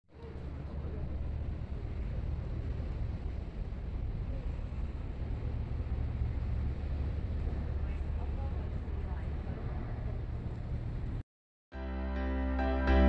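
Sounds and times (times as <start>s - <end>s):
wind buffeting microphone: 0.1s - 11.2s.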